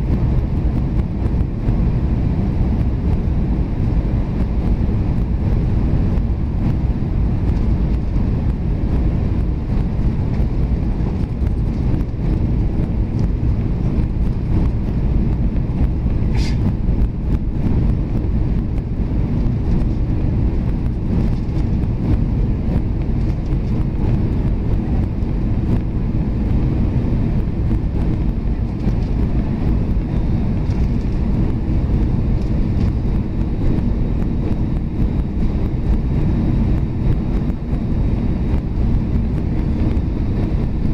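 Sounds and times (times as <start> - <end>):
jet cabin engine roar: 0.0 - 40.9.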